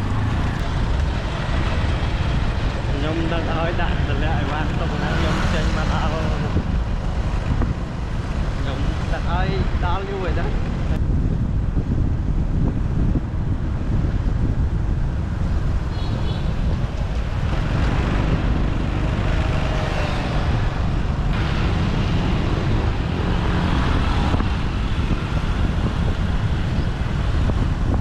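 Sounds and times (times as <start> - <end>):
road and traffic noise: 0.0 - 28.0
wind rushing over microphone: 0.0 - 28.0.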